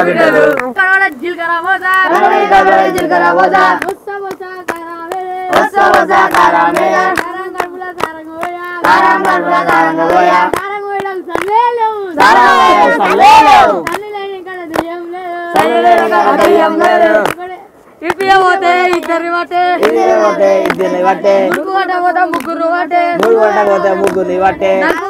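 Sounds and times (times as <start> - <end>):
boys singing in chorus: 0.0 - 25.0
hands clapping in time: 0.1 - 0.8, 1.8 - 25.0.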